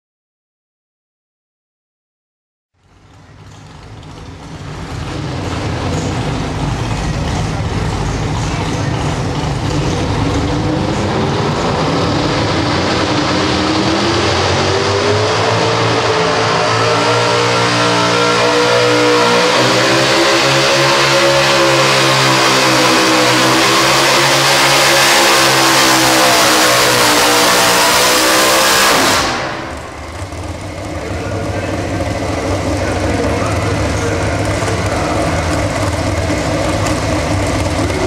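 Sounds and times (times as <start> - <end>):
supercharged truck engine at full throttle: 2.8 - 38.0.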